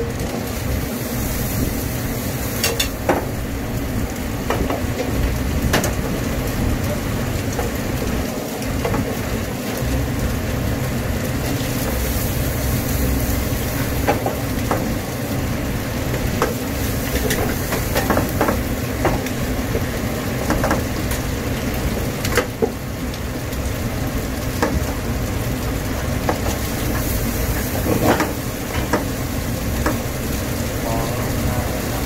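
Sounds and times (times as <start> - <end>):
egg sizzling in a wok: 0.0 - 32.0.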